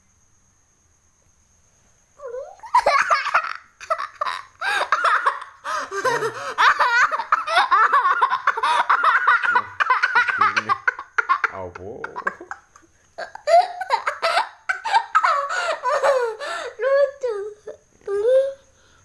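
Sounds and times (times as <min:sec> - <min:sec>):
young child giggling: 0:02.2 - 0:17.4.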